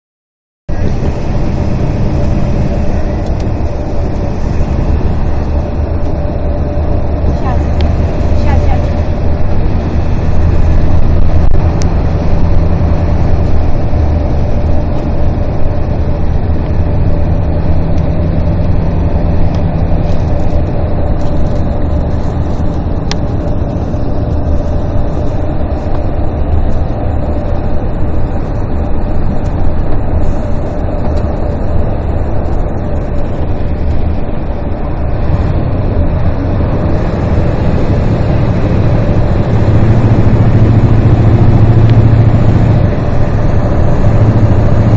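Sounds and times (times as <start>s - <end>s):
road noise: 0.7s - 44.9s
vehicle engine running: 0.7s - 44.9s.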